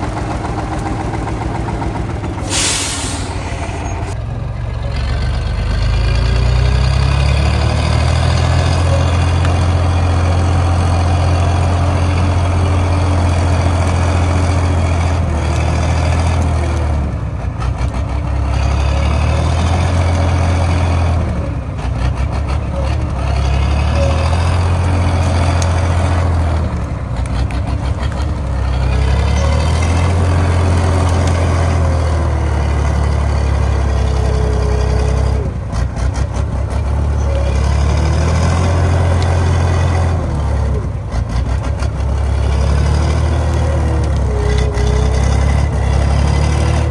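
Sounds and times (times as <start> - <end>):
truck diesel engine running hard: 0.0 - 46.9.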